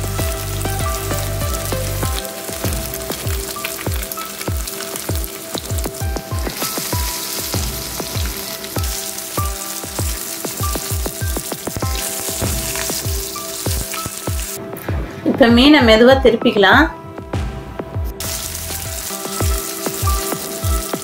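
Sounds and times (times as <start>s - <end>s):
fish sizzling in oil: 0.0s - 14.6s, 18.2s - 21.0s
music with bass beat: 0.0s - 21.0s.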